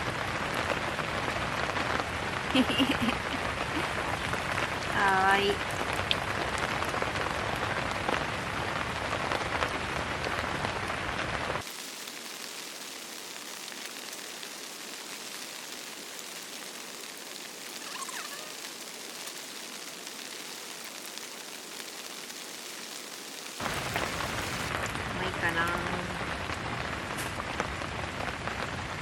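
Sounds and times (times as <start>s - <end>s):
heavy rain on tent fabric: 0.0s - 29.0s.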